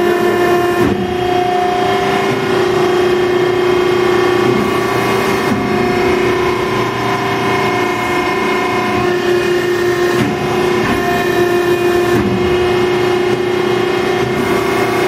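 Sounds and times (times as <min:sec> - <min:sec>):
hydraulic press humming with whine: 0:00.0 - 0:15.0.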